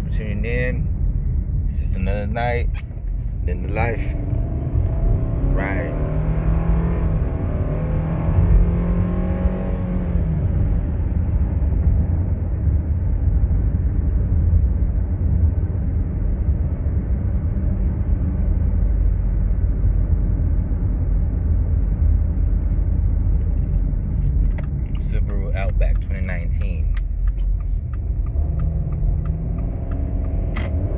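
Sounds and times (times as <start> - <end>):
car cabin road and engine rumble: 0.0 - 30.9.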